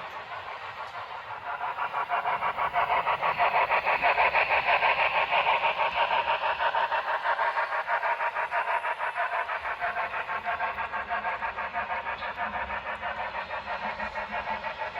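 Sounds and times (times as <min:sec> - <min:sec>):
model train clicking past: 0:00.0 - 0:14.9.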